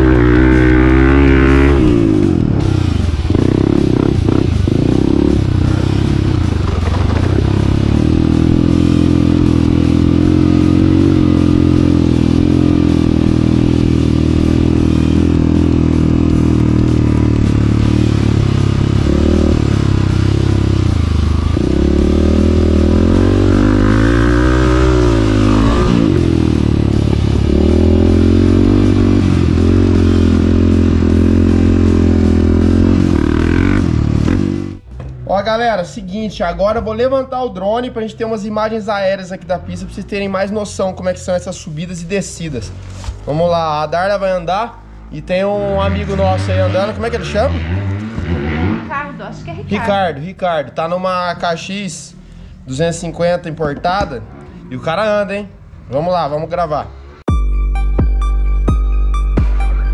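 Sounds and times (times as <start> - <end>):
motorcycle engine revving: 0.0 - 34.9, 42.0 - 50.2, 51.7 - 57.3.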